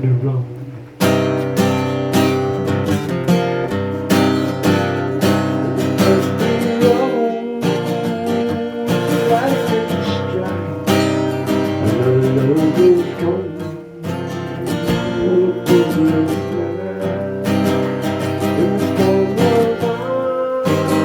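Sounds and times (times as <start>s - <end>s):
acoustic guitar strumming chords: 0.0s - 21.0s
wavering guitar melody: 0.0s - 21.0s.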